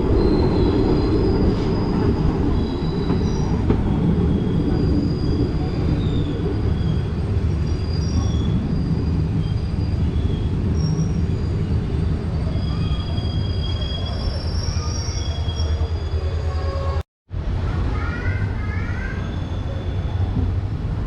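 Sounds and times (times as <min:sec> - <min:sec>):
train rumbling on track: 0:00.0 - 0:21.0
wheel squeals: 0:00.1 - 0:17.0.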